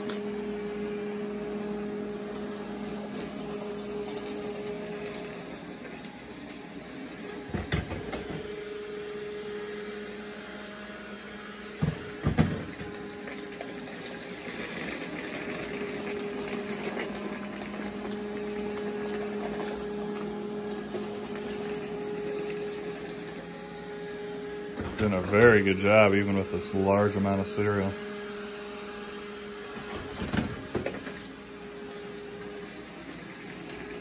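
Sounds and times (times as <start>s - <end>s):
robot vacuum motor hum: 0.0s - 34.0s.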